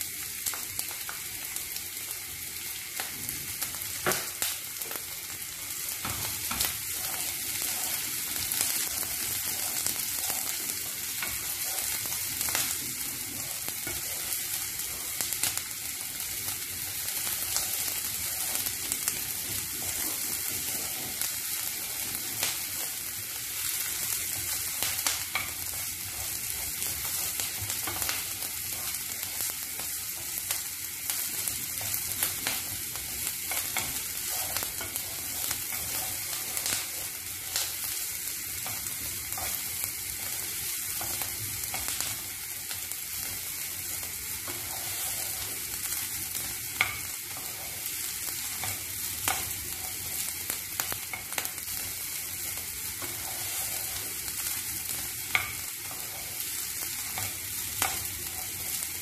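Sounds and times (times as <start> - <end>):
onion sizzling in hot oil: 0.0 - 59.0.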